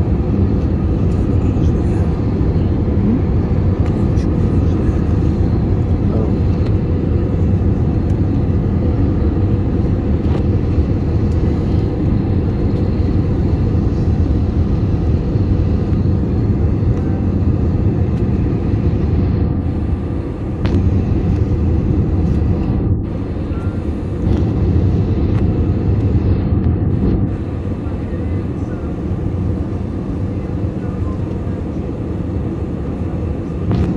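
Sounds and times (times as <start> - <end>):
airliner cabin engine rumble: 0.0 - 33.9.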